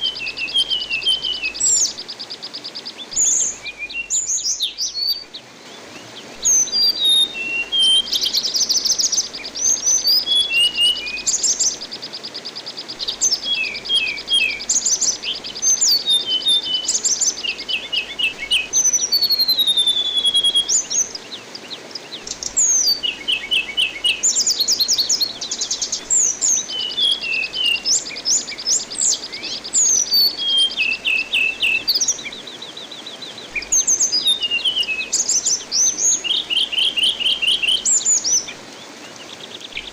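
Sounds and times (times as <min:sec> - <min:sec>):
running water hiss: 0:00.0 - 0:39.9.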